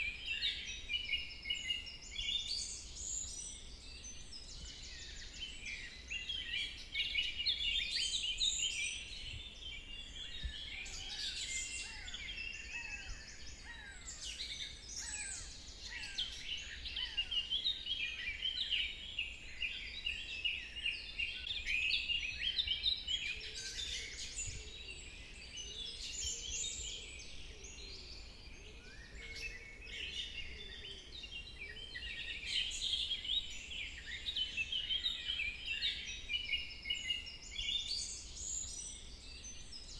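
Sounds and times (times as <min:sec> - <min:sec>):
forest birds chirping and trilling: 0:00.0 - 0:39.9.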